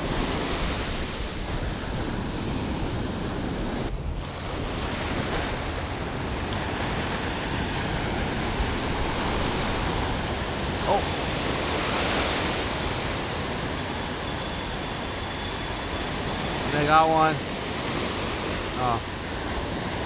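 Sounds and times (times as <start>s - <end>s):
ocean surf washing on sand: 0.0s - 20.0s
wind buffeting microphone: 0.0s - 20.0s.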